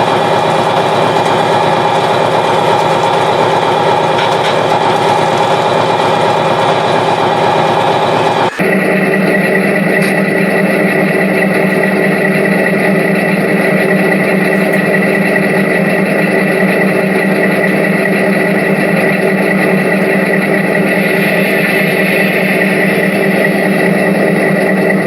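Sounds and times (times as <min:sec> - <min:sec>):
diesel locomotive engine running: 0:00.0 - 0:25.0.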